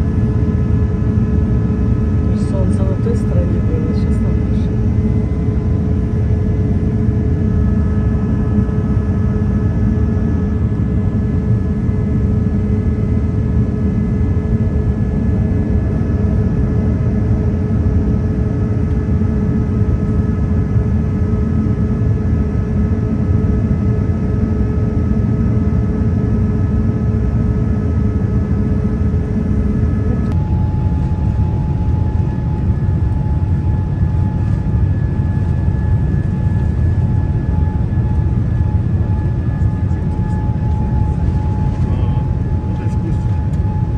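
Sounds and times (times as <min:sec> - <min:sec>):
engine and airflow roar: 0:00.0 - 0:43.9
faint steady whining tones: 0:00.0 - 0:43.9.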